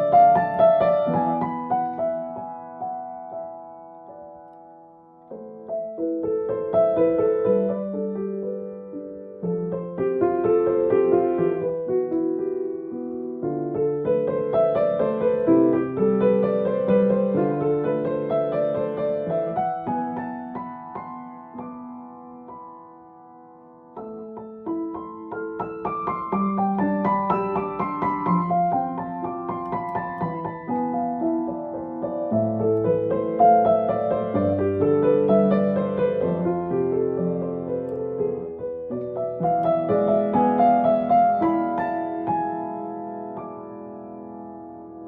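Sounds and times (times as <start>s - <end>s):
solo piano piece: 0.0s - 45.0s.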